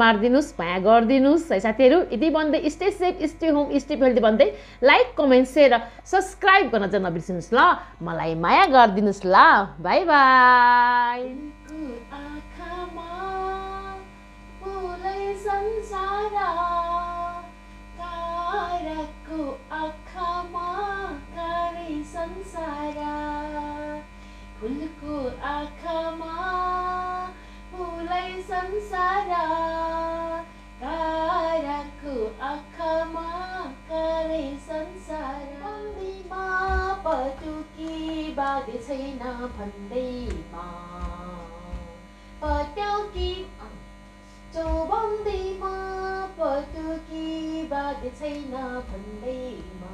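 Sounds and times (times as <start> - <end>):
woman singing: 0.0 - 49.9.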